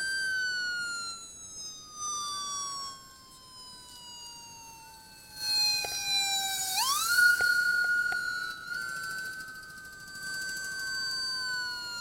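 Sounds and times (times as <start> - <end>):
steady siren tone: 0.0 - 12.0
siren wailing and sweeping: 1.6 - 12.0.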